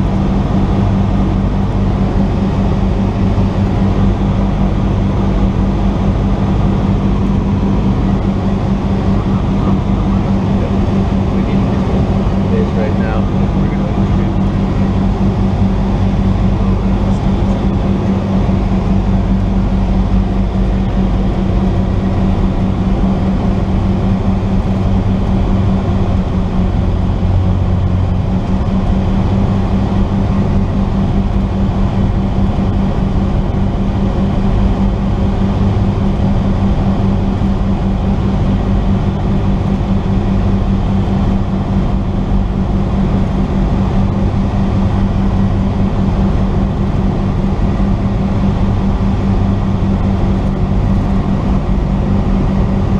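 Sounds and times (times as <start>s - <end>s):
propeller plane engine droning: 0.0s - 52.9s.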